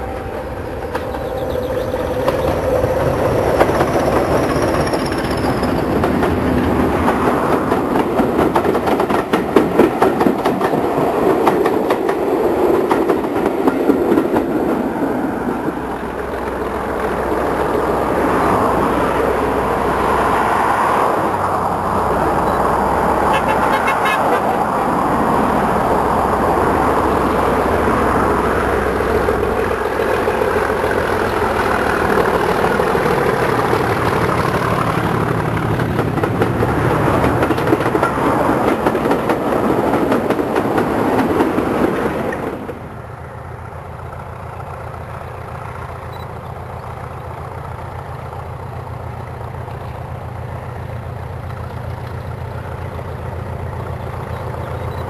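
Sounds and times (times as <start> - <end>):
diesel locomotive engine: 0.0 - 55.0.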